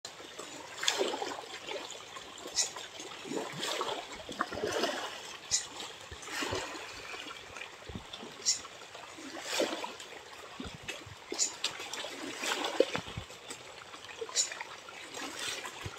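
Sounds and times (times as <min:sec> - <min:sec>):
fish thrashing and splashing water: 0:00.4 - 0:08.4, 0:09.2 - 0:15.9.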